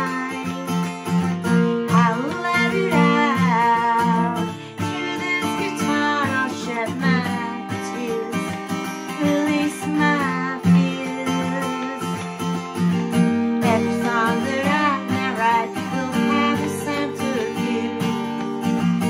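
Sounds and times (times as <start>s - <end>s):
woman singing: 0.0s - 12.7s, 13.5s - 19.0s
acoustic guitar strumming: 0.0s - 19.0s.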